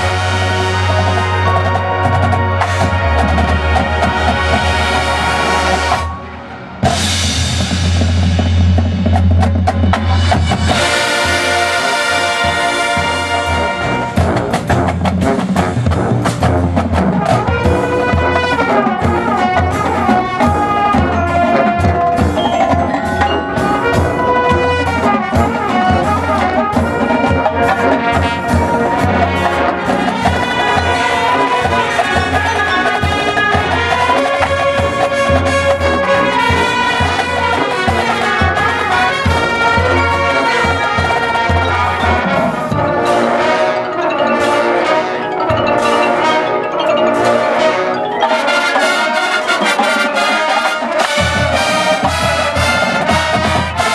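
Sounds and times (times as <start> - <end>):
brass horns playing: 0.0 - 8.8, 10.0 - 53.9
marching drums: 0.0 - 53.9
marimbas: 0.0 - 53.9.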